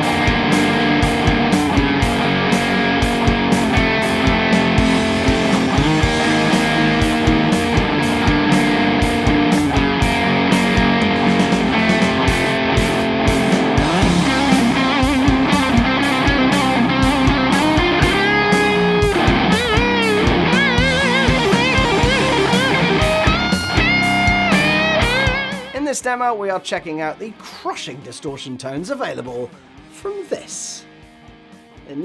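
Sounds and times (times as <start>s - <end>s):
lead guitar with vibrato and bends: 0.0s - 25.9s
distorted electric guitar riffs: 0.0s - 26.1s
steady drums: 0.0s - 26.2s, 29.5s - 32.0s.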